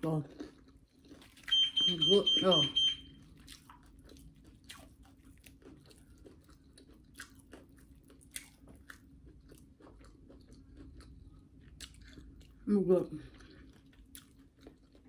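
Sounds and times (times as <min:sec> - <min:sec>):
chewing crispy food: 0:00.0 - 0:02.0, 0:02.8 - 0:15.0
faint steady hum: 0:00.0 - 0:15.0.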